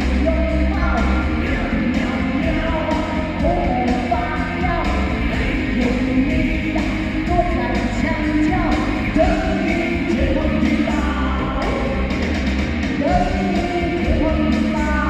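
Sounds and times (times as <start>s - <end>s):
person singing: 0.0s - 12.2s, 12.9s - 15.0s
music with steady beat: 0.0s - 15.0s.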